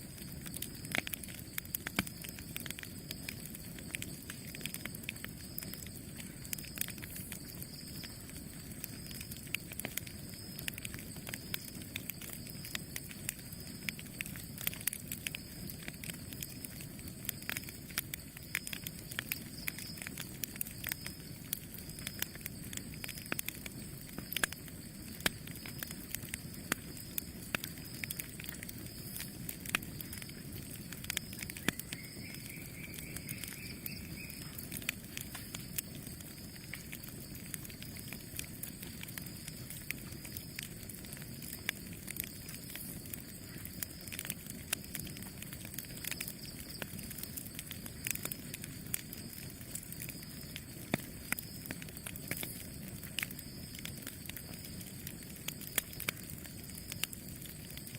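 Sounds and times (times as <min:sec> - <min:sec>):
low rush of flames: 0:00.0 - 0:57.9
wood crackling and popping: 0:00.0 - 0:57.9.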